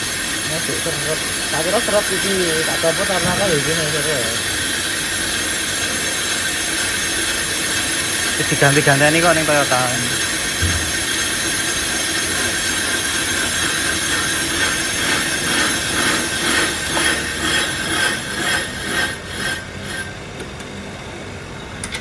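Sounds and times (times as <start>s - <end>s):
brake lathe metallic screech: 0.0s - 20.2s.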